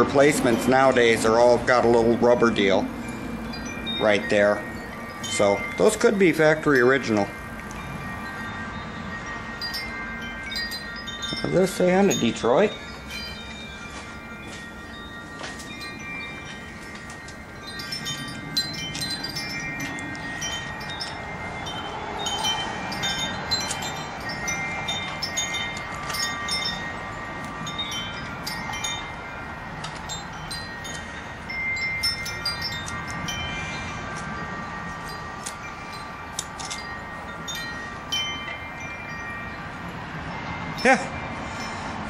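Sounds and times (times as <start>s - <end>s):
metallic chime-like ringing: 0.0s - 42.0s.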